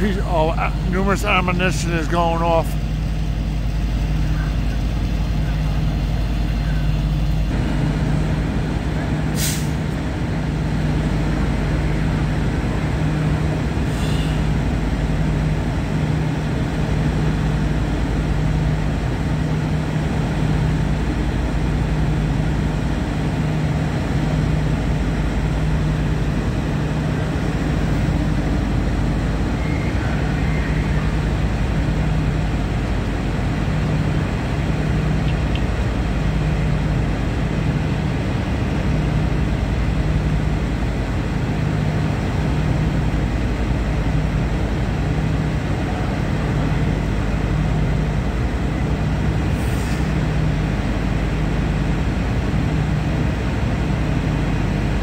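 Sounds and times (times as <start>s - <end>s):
fire engine pumps droning: 0.0s - 55.0s.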